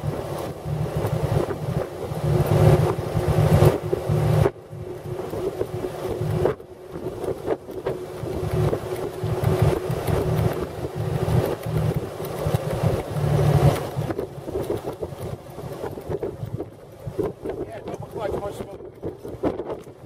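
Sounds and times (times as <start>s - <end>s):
car engine running: 0.0s - 20.0s
wind buffeting microphone: 0.0s - 20.0s.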